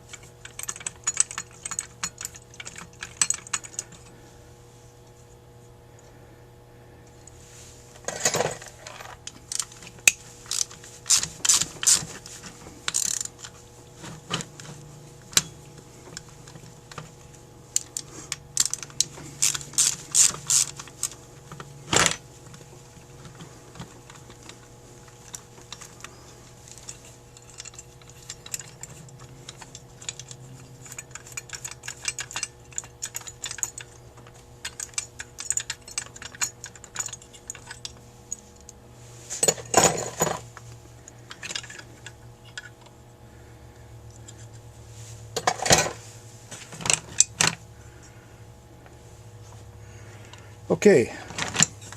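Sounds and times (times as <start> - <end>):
metal parts clicking and clinking: 0.0 - 4.2, 8.0 - 42.9, 45.4 - 47.6, 50.2 - 51.9
faint steady hum: 0.0 - 51.9.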